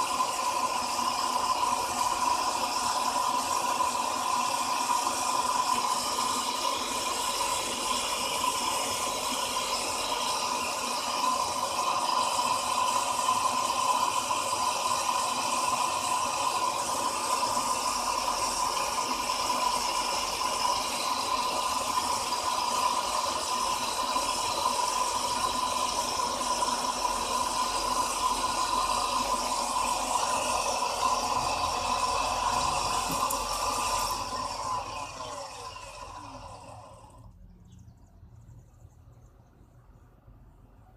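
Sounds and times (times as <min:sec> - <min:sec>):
electrical buzzing rattle: 0:00.0 - 0:37.3.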